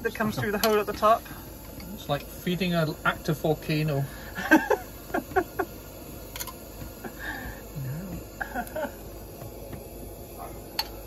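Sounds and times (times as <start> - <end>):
gas burner hissing: 0.0 - 11.0.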